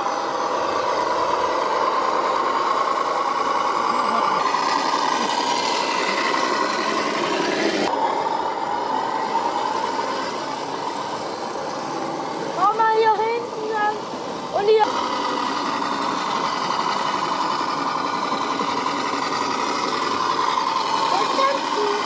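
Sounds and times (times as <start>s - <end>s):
toy truck motor whining drone: 0.0s - 22.0s.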